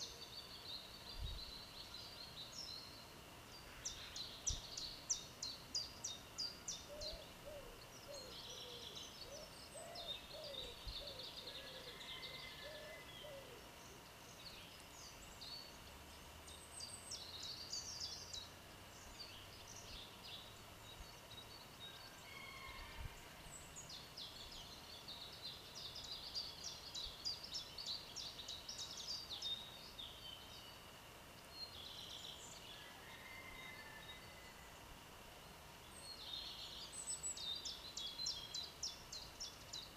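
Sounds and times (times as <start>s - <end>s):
lower repeated bird calls: 0.0s - 35.0s
songbirds singing: 0.0s - 39.9s.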